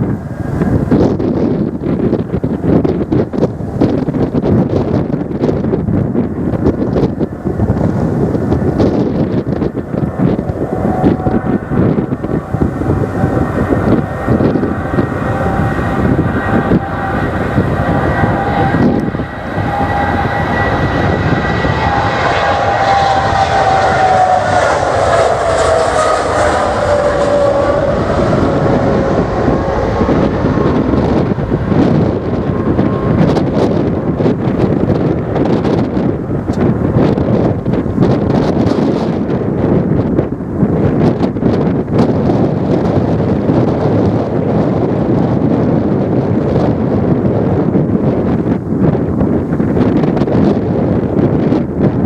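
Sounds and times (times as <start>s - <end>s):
airliner engines passing: 0.0s - 52.0s
wind buffeting microphone: 0.0s - 52.0s.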